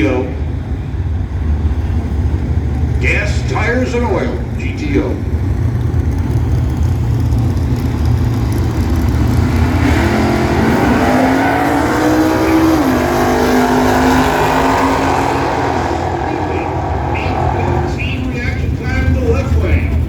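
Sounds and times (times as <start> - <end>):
drag car engines rumbling: 0.0 - 20.0.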